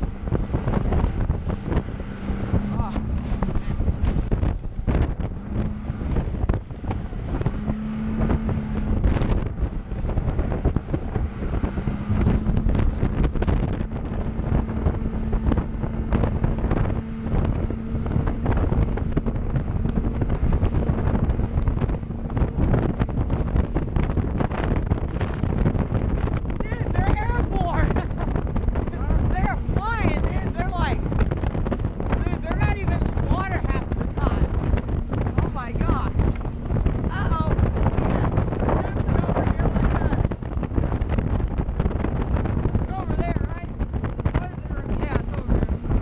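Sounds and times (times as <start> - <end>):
motorboat engine hum: 0.0 - 46.0
water rushing: 0.0 - 46.0
wind buffeting microphone: 0.0 - 46.0.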